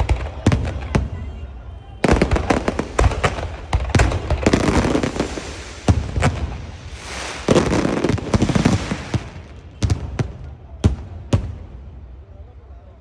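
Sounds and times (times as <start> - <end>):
fireworks banging: 0.0 - 1.4, 2.0 - 11.9
fireworks crackling: 0.0 - 12.2.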